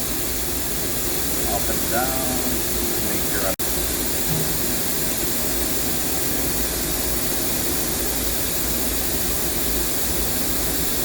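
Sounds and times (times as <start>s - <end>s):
lathe machine hiss and hum: 0.0s - 11.0s.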